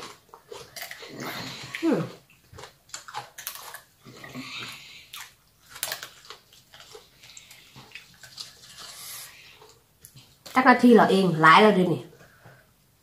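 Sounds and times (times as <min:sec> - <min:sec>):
wet chewing: 0:00.0 - 0:10.6.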